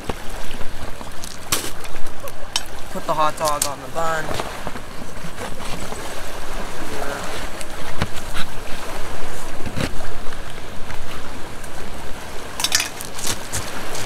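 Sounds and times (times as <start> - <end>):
waves washing onto pebbles: 0.0 - 14.0.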